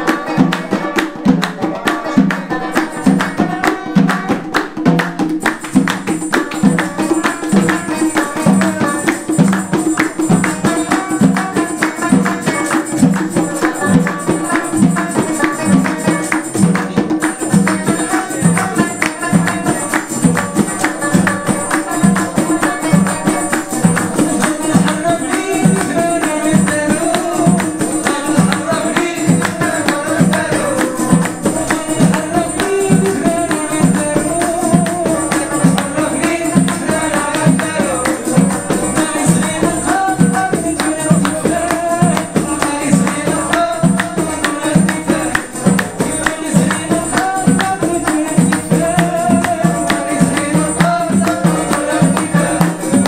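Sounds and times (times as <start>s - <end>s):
banjo: 0.0s - 53.0s
frame drum beating: 0.0s - 53.0s
hand clapping: 0.0s - 53.0s.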